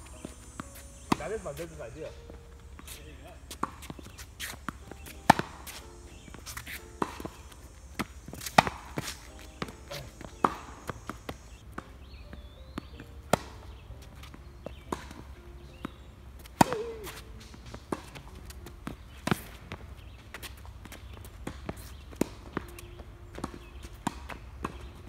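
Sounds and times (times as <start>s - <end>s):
racket hitting tennis ball: 0.0s - 25.0s
tennis ball bouncing on court: 0.0s - 25.0s.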